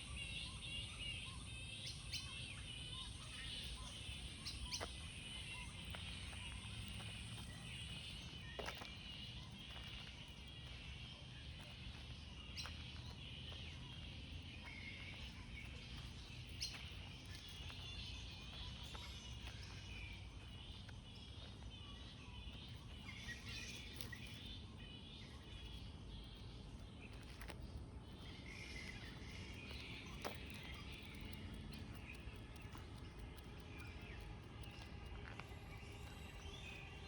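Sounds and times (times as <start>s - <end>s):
low outdoor rumble: 0.0s - 37.0s
small birds chirping: 0.0s - 37.0s.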